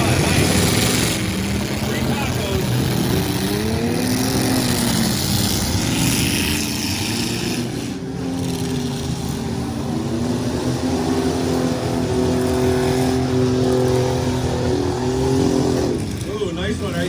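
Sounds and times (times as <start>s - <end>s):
pickup truck engines revving: 0.0s - 17.0s.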